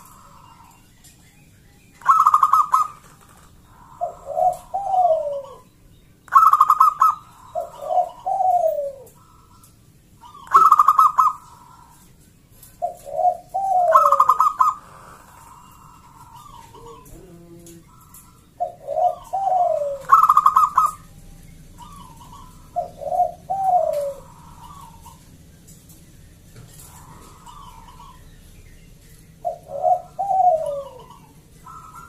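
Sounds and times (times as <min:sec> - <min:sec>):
dove cooing: 0:00.0 - 0:01.2, 0:01.9 - 0:32.0.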